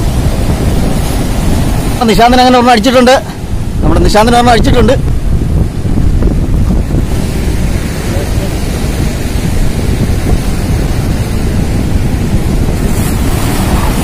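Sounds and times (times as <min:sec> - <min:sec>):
waves splashing against rocks: 0:00.0 - 0:04.2, 0:05.0 - 0:14.0
wind buffeting microphone: 0:00.0 - 0:14.0.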